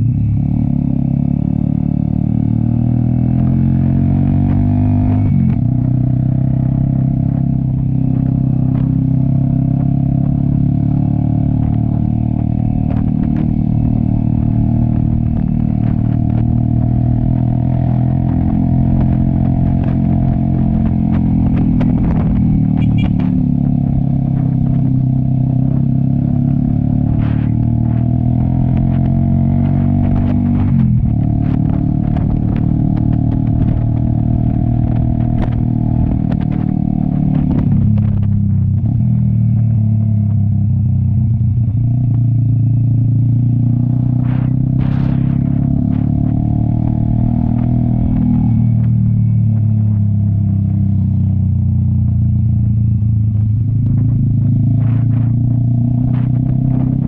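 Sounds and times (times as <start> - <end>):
motorcycle engine: 0.0 - 57.0
light road clatters: 4.3 - 57.0.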